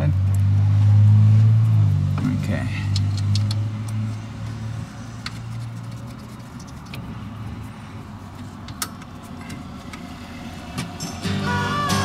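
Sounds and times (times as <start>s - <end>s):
low vehicle hum: 0.0s - 12.0s.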